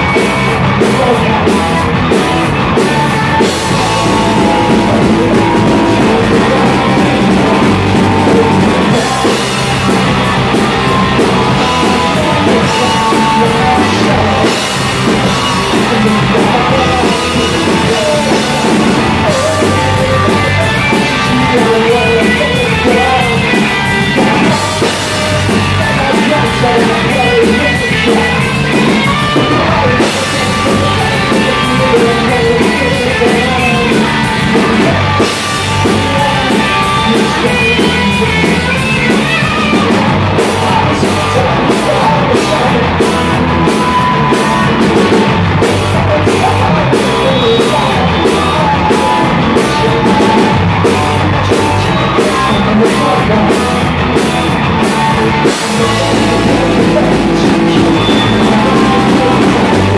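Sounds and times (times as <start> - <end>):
drum kit with crashing cymbals: 0.0 - 59.9
electric guitars: 0.0 - 59.9
person singing lead vocal: 0.0 - 59.9.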